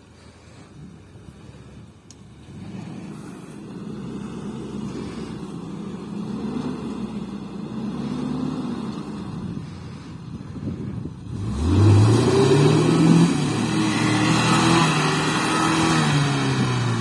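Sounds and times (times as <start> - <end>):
vehicle engine revving: 2.3 - 10.1, 10.9 - 17.0.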